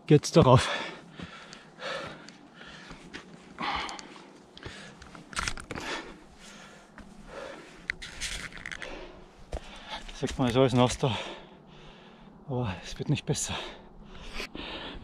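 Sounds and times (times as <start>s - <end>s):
person breathing: 0.6s - 10.2s, 11.1s - 12.4s, 13.5s - 15.0s.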